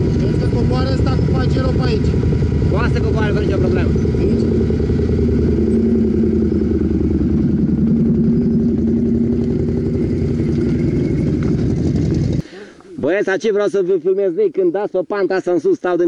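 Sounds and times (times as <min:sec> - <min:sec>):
atv engines running: 0:00.0 - 0:13.2.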